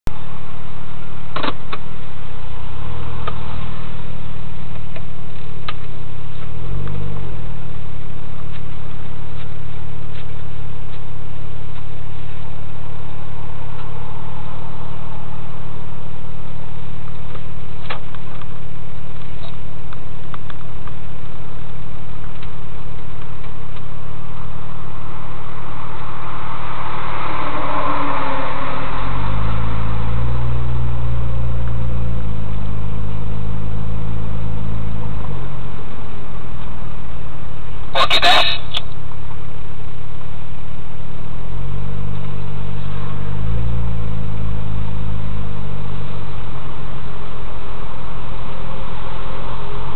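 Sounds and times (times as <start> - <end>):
car engine idling and creeping: 0.0 - 49.9.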